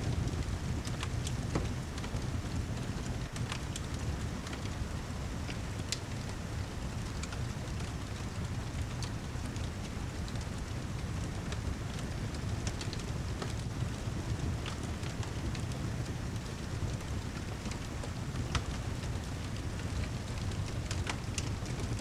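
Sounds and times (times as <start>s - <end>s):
fire crackling: 0.1s - 22.0s.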